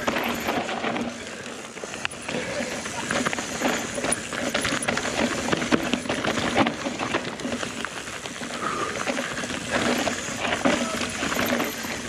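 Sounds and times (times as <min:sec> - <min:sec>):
bike rattling: 0:00.0 - 0:12.0
tyres crunching over stones: 0:00.0 - 0:12.0.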